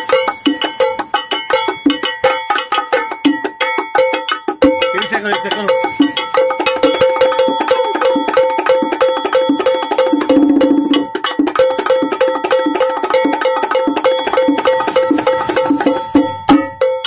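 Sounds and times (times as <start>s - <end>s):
bongo drums played by hand: 0.0s - 17.0s.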